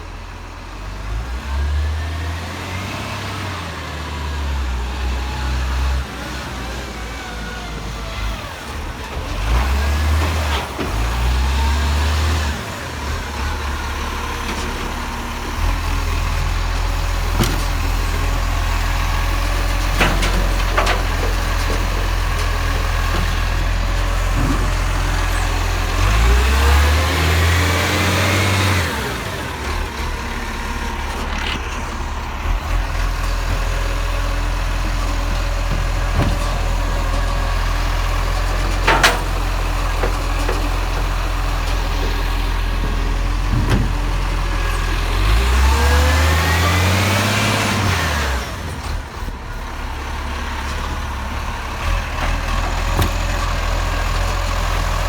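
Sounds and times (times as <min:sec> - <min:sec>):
truck engine revving: 0:00.0 - 0:55.0
garbage truck engine idling: 0:03.5 - 0:55.0.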